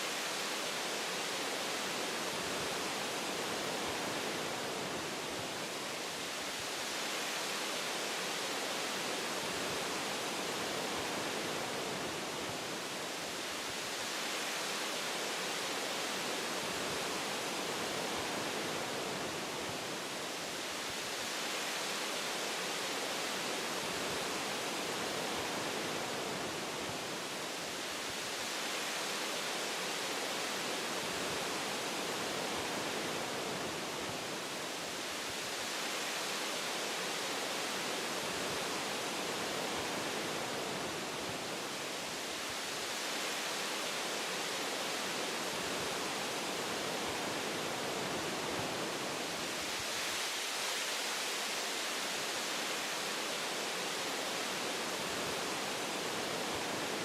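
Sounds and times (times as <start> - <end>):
wind through tree branches: 0.0 - 57.0.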